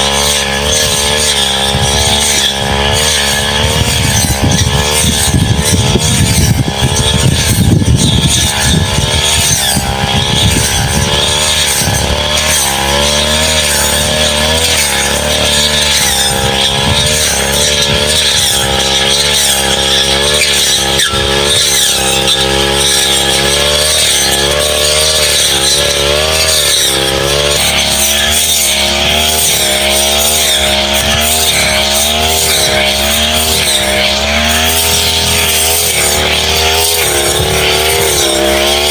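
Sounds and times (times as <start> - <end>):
blade cutting saplings: 0.0 - 38.9
brush cutter engine under load: 0.0 - 38.9.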